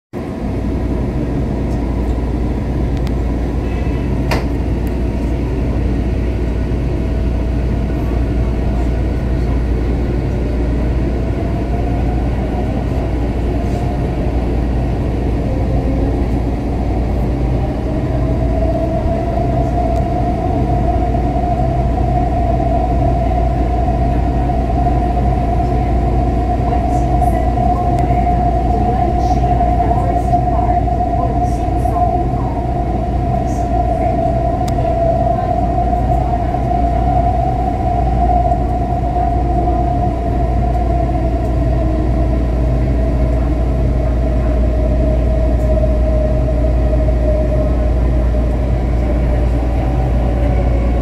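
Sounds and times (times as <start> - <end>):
train running rumble: 0.2 - 51.0.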